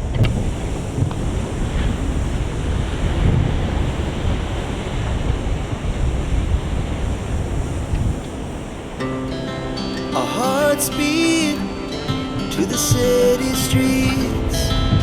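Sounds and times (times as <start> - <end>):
ocean surf washing onto beach: 0.0 - 15.0
wind gusting on microphone: 0.0 - 15.0.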